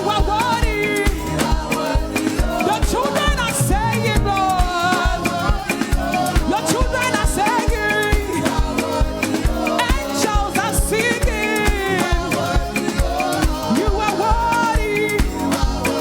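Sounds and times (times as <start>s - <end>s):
worship band music: 0.0s - 16.0s.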